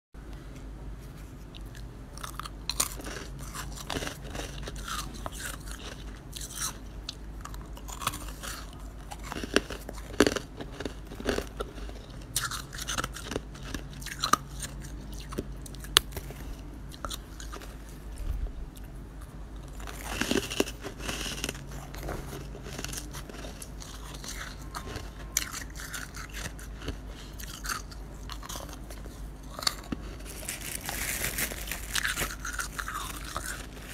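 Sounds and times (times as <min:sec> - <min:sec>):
crunching chewing of frost: 0:01.4 - 0:33.9.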